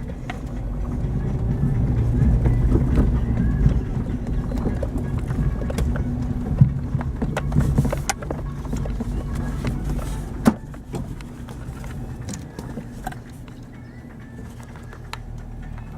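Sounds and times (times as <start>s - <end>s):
car engine running: 0.0s - 15.9s
vehicle knocks and rattles: 0.0s - 15.9s.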